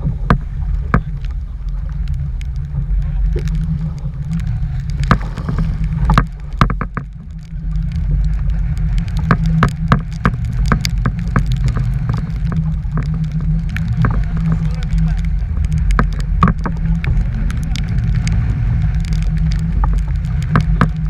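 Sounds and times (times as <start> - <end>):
sharp taps and clicks: 0.0 - 21.0
wind buffeting microphone: 0.0 - 21.0.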